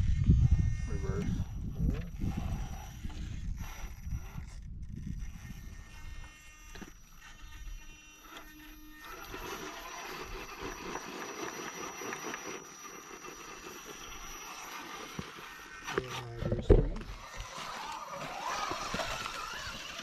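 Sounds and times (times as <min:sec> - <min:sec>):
toy car electric motor whirring: 0:00.0 - 0:20.0.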